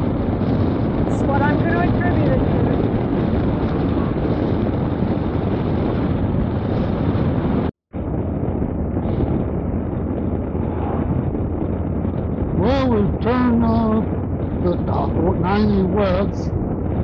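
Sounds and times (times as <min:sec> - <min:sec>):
motorcycle engine at speed: 0:00.0 - 0:17.0
wind on microphone: 0:00.0 - 0:17.0.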